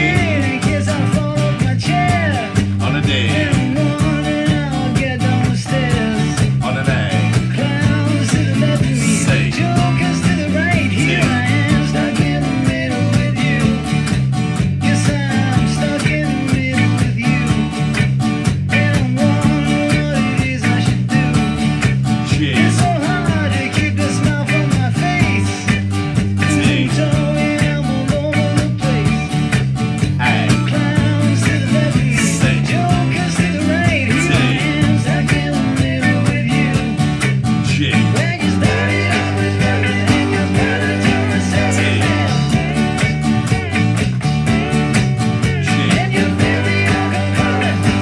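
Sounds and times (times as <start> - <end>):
guitar strumming chords: 0.0 - 48.0
rock song with singing: 0.0 - 48.0.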